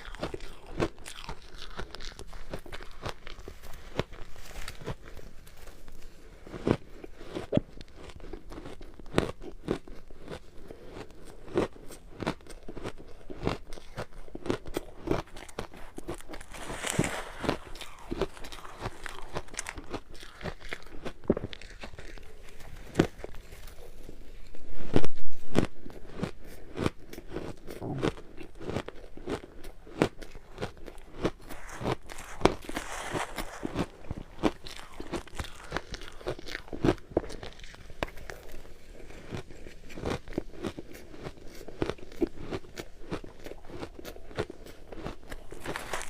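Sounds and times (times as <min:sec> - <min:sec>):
ice crunching being chewed: 0:00.0 - 0:46.0.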